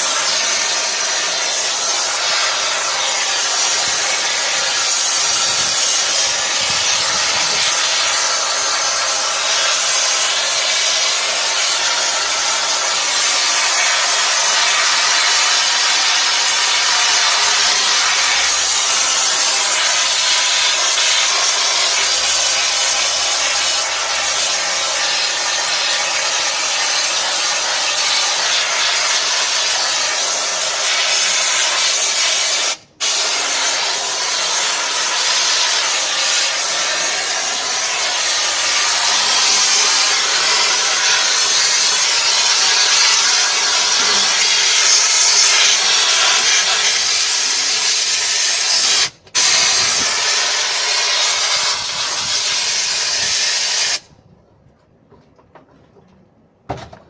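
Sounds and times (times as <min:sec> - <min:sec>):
spray nozzle hissing: 0:00.0 - 0:54.1.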